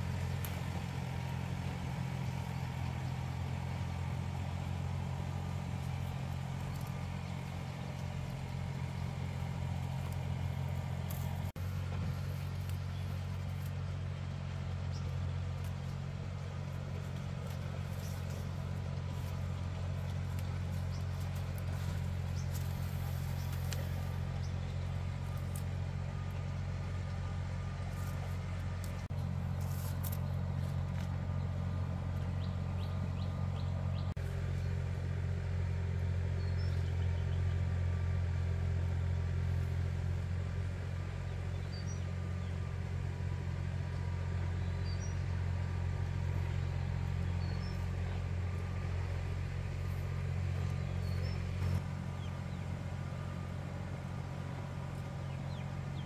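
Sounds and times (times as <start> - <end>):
engine running with low hum: 0.0 - 56.0.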